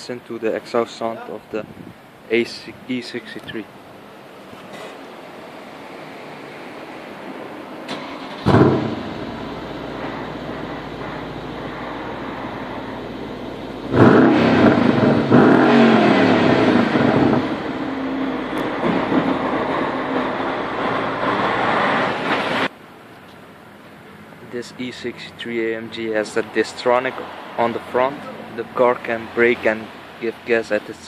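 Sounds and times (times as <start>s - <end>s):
car engine idling and revving: 4.7s - 30.9s.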